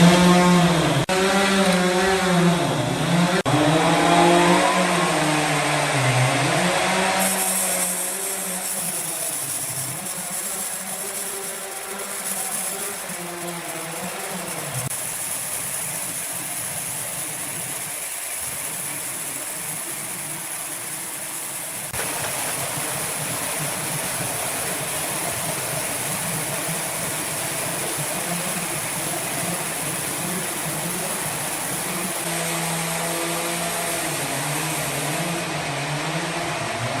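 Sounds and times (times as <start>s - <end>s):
woodworking machinery running: 0.0s - 37.0s.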